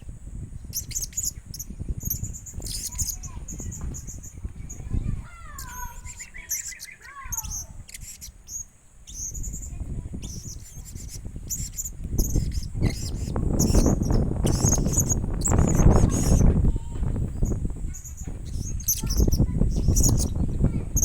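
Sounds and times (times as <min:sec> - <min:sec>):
parrot chirping: 0:00.6 - 0:16.6, 0:17.2 - 0:21.0.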